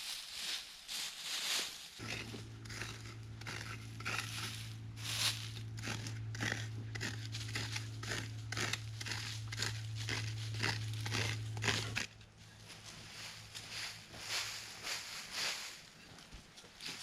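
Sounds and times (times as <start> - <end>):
rasping crunching strokes: 0.3 - 15.9
steady low hum: 1.4 - 17.0.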